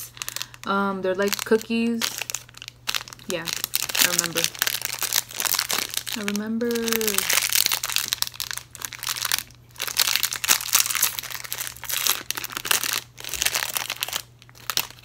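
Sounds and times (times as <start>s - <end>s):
plastic snack packet crinkling: 0.0s - 15.0s.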